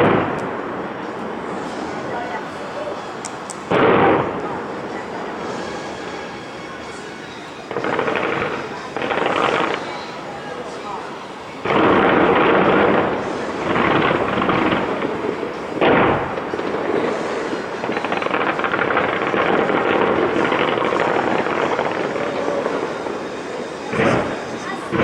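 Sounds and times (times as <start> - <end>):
fireworks booms: 0.0 - 25.0
fireworks crackling: 0.0 - 25.0.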